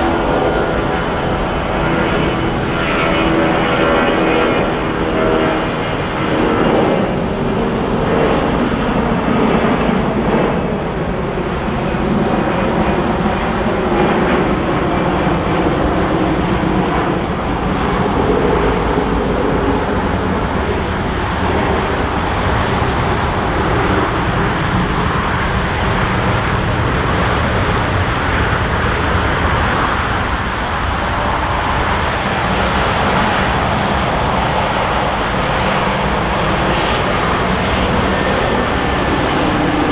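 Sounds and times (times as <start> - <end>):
engine whine: 0.0 - 39.9
jet engines roaring: 0.0 - 39.9.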